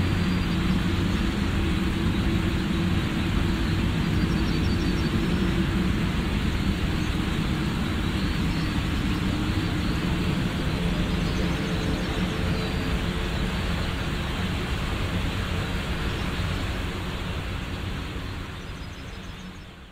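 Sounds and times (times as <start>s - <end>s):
jet engines running: 0.0s - 19.9s.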